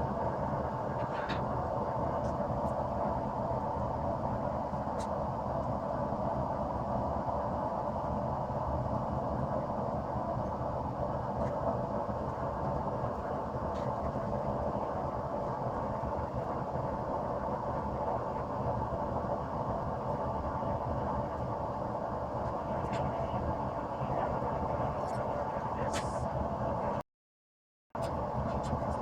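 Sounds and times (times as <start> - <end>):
gas forge burner roaring: 0.0 - 27.0.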